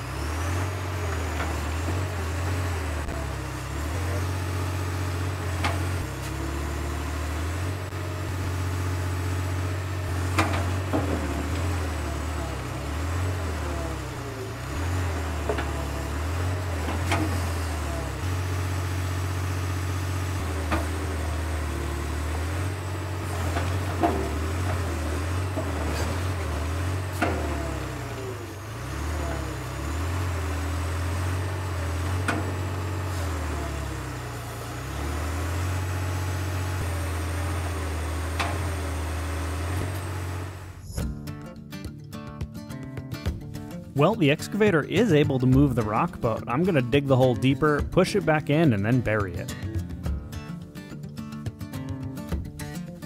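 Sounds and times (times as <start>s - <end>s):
excavator diesel engine under load: 0.0s - 41.0s, 44.0s - 50.1s.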